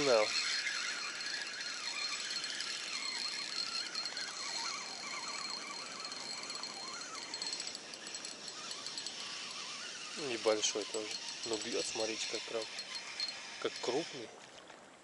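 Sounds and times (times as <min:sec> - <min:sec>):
faint reel ticking: 0:00.0 - 0:14.3
fishing reel winding: 0:00.0 - 0:14.3
wind hissing: 0:00.0 - 0:14.3.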